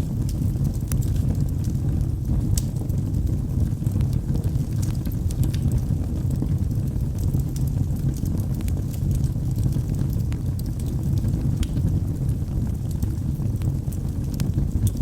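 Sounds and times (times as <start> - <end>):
fire crackling and popping: 0.0 - 15.0
flames rushing: 0.0 - 15.0.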